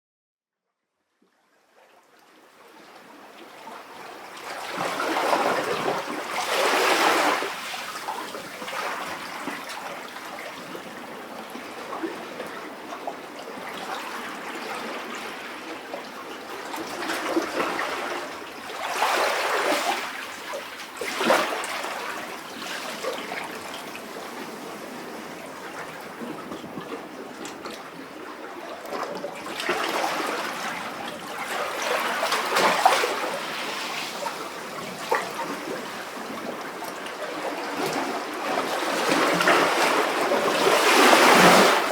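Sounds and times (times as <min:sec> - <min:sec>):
sea waves sloshing in rock cavity: 0:03.8 - 0:15.8, 0:16.4 - 0:41.9.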